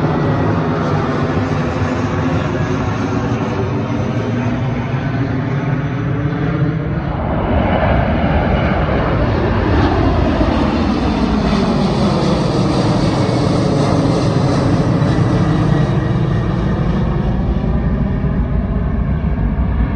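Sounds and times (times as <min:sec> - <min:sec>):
airliner engines roaring: 0:00.0 - 0:19.9.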